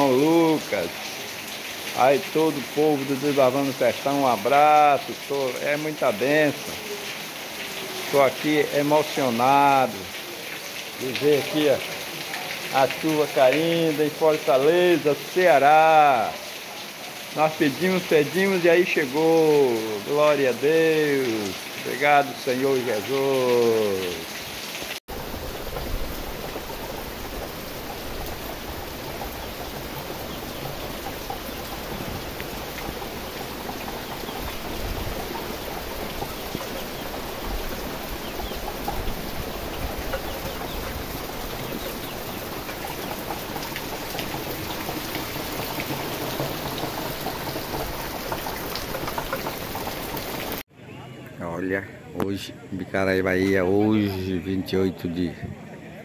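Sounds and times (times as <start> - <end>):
rain falling on trees: 0.0 - 50.7.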